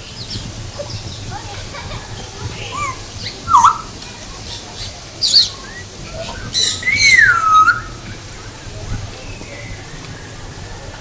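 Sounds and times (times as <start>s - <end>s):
birds calling with swooping whistles: 0.0s - 11.0s.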